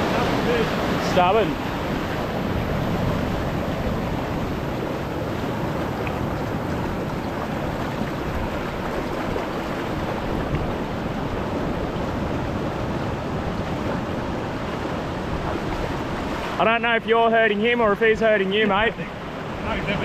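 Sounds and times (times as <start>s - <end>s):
wind buffeting microphone: 0.0s - 16.6s
surf breaking: 0.0s - 20.0s.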